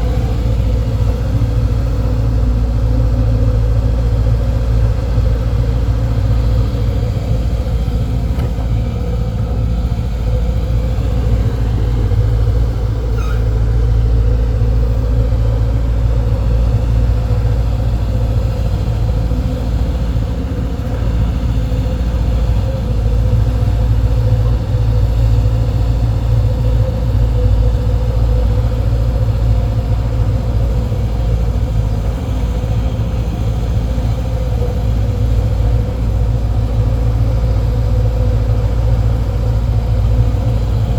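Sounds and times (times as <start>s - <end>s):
excavator diesel engine rumbling: 0.0s - 40.9s.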